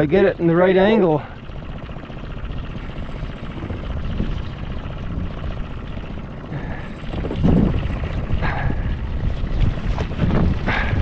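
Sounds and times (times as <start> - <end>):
outboard motor rumbling: 0.0 - 11.0.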